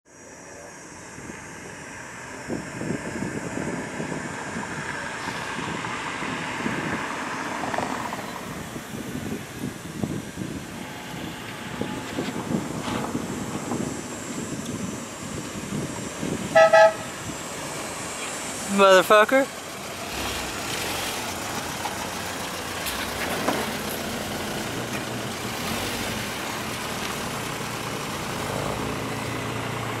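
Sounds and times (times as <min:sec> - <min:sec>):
wind buffeting microphone: 0:01.1 - 0:30.0
car passing by: 0:01.7 - 0:14.5, 0:15.4 - 0:30.0.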